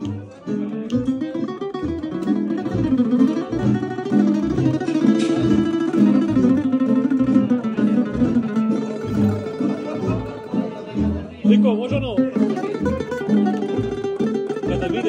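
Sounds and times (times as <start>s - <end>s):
plucked bass: 0.0s - 15.0s
plucked string melody: 0.0s - 15.0s.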